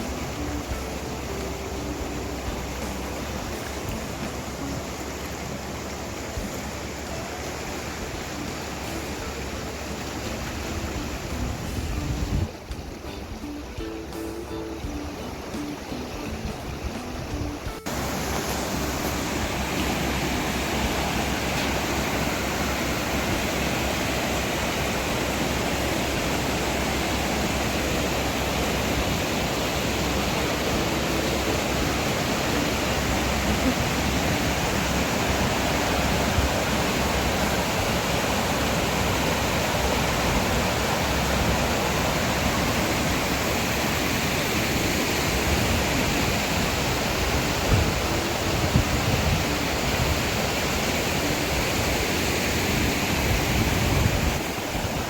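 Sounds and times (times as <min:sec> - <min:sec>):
river water rushing over rapids: 0:00.0 - 0:55.0.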